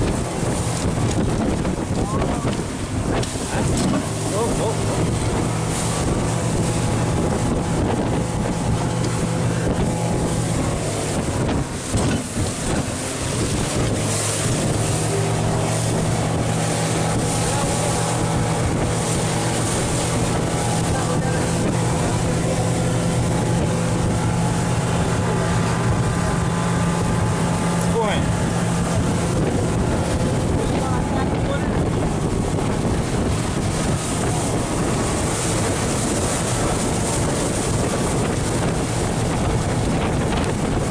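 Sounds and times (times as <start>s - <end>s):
boat motor running: 0.0s - 40.9s
water rushing past hull: 0.0s - 40.9s
wind buffeting microphone: 0.0s - 40.9s.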